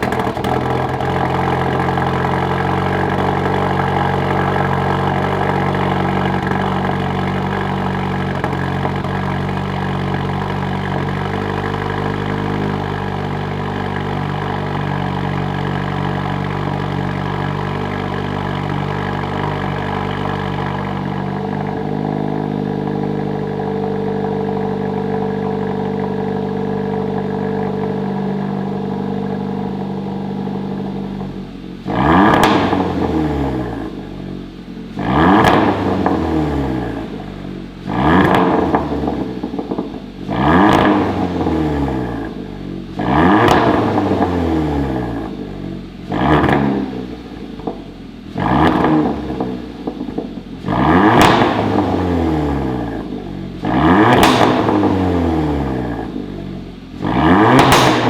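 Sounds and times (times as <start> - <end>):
car engine idling and revving: 0.0 - 58.0
exhaust crackles and pops: 0.0 - 58.0.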